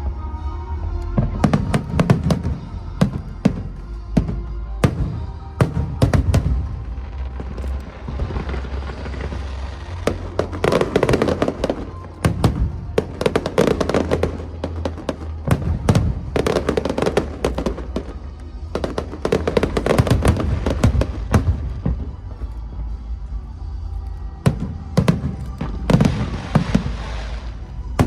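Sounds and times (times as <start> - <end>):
background music: 0.0 - 28.0
fireworks bangs and crackles: 1.2 - 23.2, 24.3 - 28.0.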